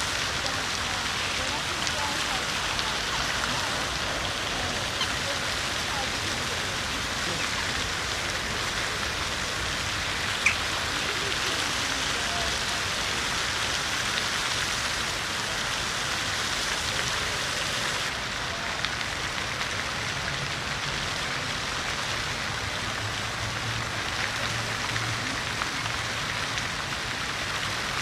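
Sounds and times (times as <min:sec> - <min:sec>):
fountain splashing: 0:00.0 - 0:28.0.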